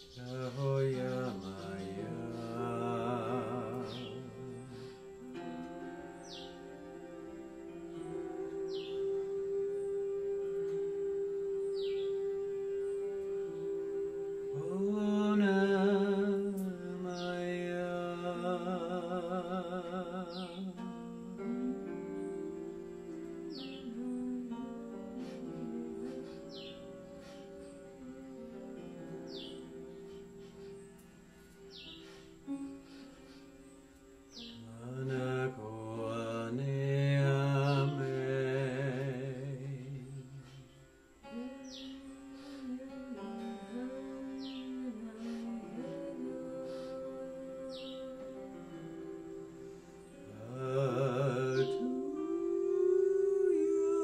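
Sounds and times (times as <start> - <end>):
held drone tone: 0.0 - 54.0
wordless chant-like singing: 0.0 - 54.0.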